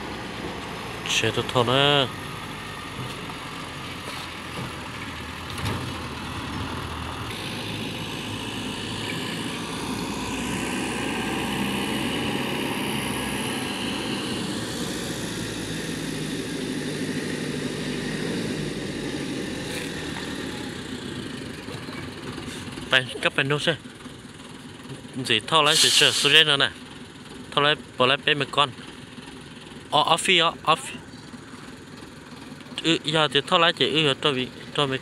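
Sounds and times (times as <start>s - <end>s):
vehicle engine noise: 0.0s - 35.0s.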